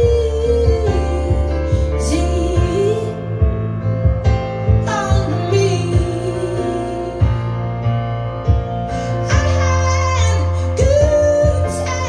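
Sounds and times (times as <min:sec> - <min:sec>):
slow song over loudspeakers: 0:00.0 - 0:12.0.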